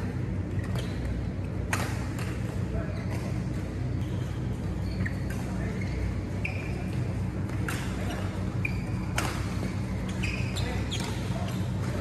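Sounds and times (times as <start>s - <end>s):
low hum of hall: 0.0s - 12.0s
court shoes squeaking: 0.4s - 12.0s.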